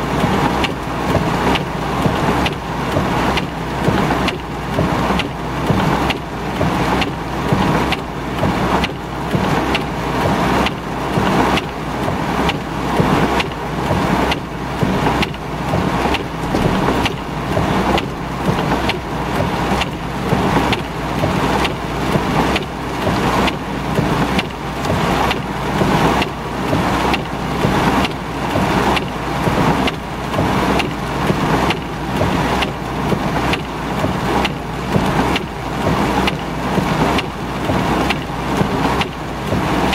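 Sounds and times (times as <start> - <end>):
heavy rain on car roof: 0.0 - 39.9
windshield wipers sweeping: 0.0 - 39.9.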